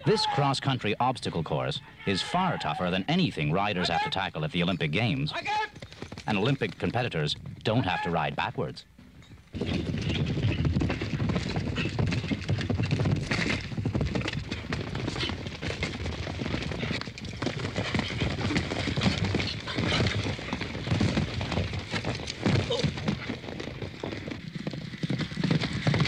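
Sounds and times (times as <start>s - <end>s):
horses galloping hoofbeats: 0.0s - 26.0s.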